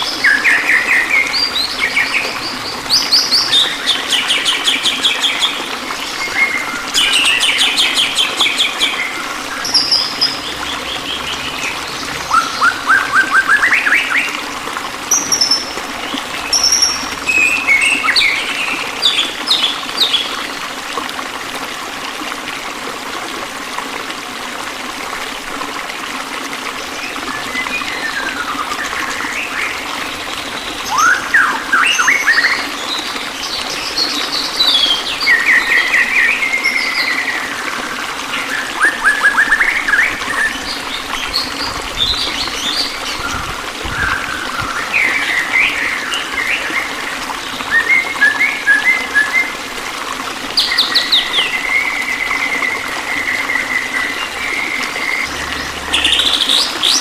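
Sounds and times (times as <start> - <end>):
running water hiss: 0.0 - 57.0.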